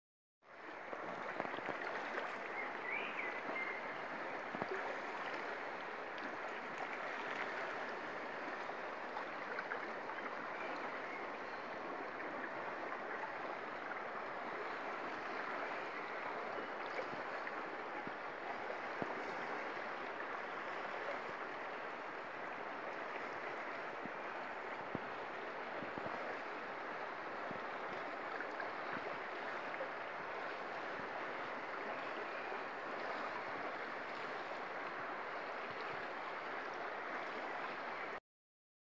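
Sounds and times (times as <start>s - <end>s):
river flowing over stones: 0.5s - 38.2s.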